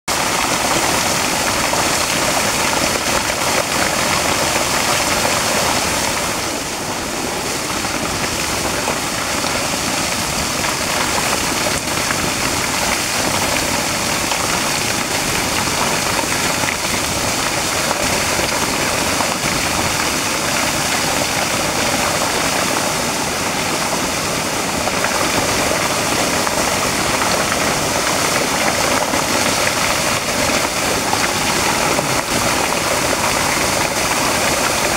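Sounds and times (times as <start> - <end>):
water jet pouring onto rocks: 0.1 - 34.9.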